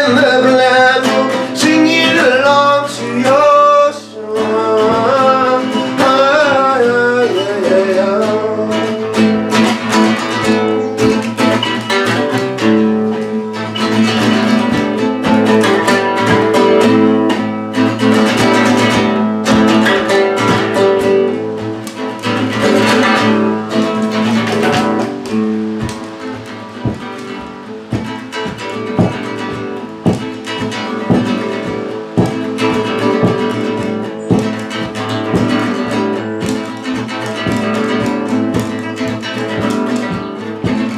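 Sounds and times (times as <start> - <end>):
guitar plucked and strummed: 0.0 - 40.9.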